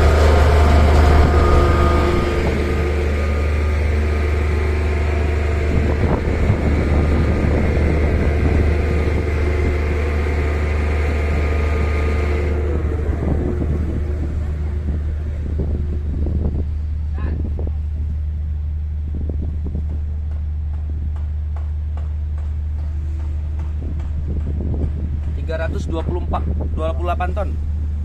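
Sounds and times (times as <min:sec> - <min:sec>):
heavy construction machinery drone: 0:00.0 - 0:28.0.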